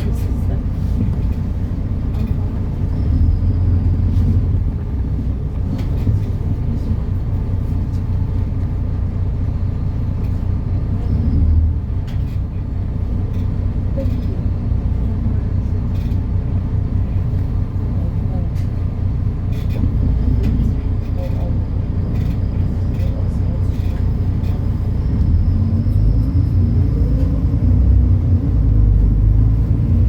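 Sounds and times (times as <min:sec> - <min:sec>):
bus diesel engine droning: 0:00.0 - 0:30.0.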